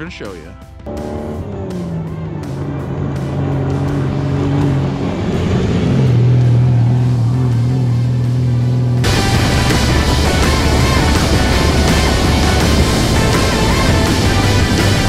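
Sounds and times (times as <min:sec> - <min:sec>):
background music: 0:00.0 - 0:15.0
buggy engine running hard: 0:00.0 - 0:15.0
tire and dirt noise: 0:00.0 - 0:15.0.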